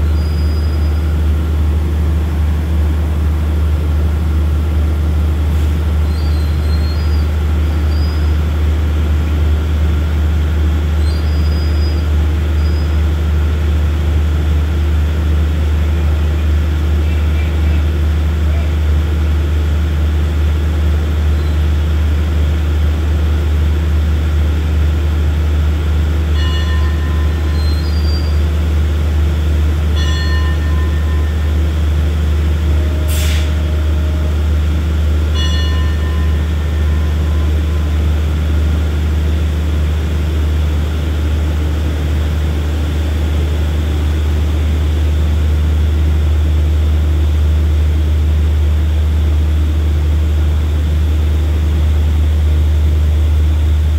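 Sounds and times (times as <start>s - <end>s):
diesel train engine humming: 0.0s - 53.9s.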